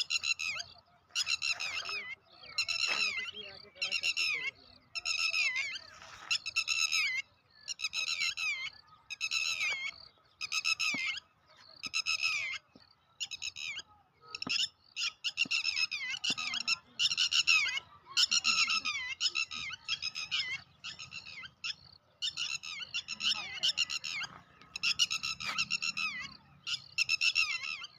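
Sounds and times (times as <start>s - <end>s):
birds giving harsh alarm calls: 0.0s - 27.9s.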